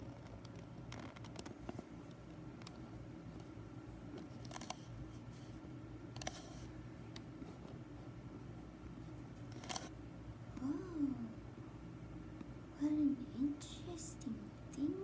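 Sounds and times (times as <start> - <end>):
computer fans humming: 0.0 - 15.0.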